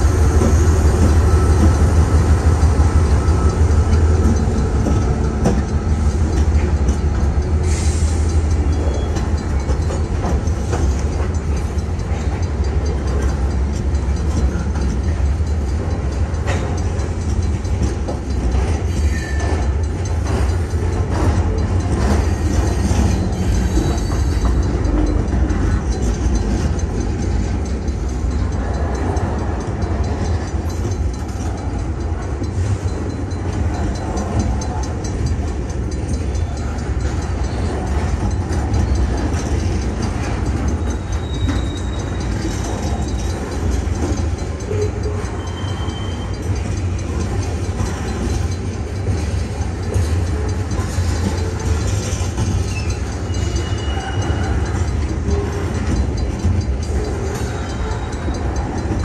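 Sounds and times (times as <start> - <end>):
clacks and squeaks: 0.0 - 59.0
diesel locomotive passing: 0.0 - 59.0
freight train wheels rumbling on rail: 0.0 - 59.0.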